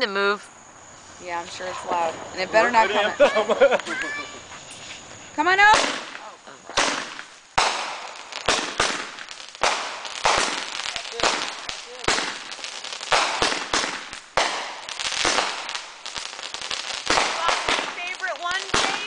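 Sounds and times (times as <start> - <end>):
fireworks hissing: 0.1 - 19.0
fireworks banging: 0.4 - 19.0.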